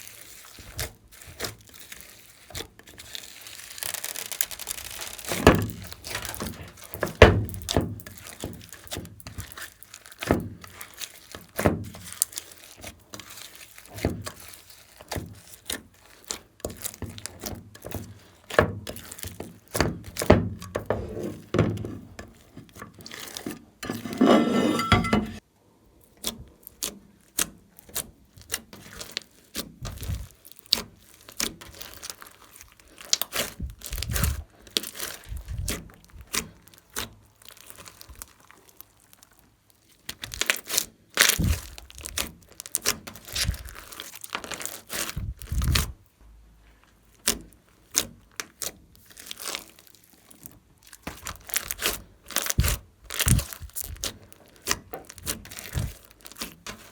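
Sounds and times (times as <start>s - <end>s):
slime squishing by hand: 0.0s - 25.4s, 26.0s - 46.1s, 46.7s - 56.9s.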